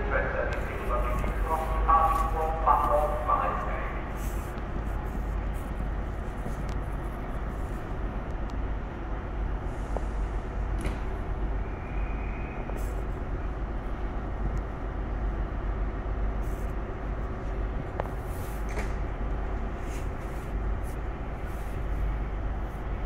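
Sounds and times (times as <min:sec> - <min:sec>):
diesel train humming: 0:00.0 - 0:23.0.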